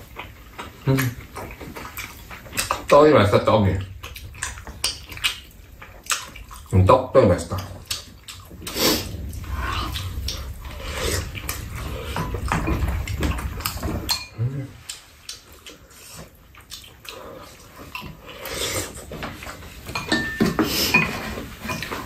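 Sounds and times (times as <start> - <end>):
people slurping and chewing: 0.0 - 22.0.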